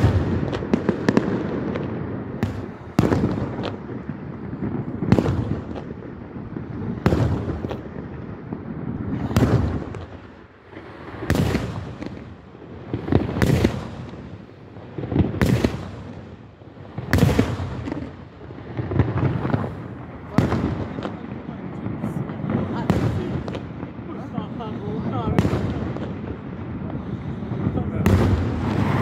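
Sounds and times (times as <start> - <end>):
firework shells booming: 0.0 - 29.0.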